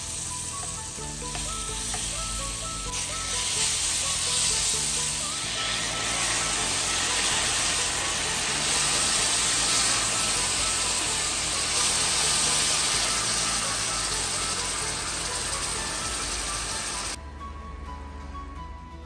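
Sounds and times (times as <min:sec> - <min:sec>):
coconut milk sizzling in hot pan: 0:00.0 - 0:17.2
background music with slow bass: 0:00.0 - 0:19.0.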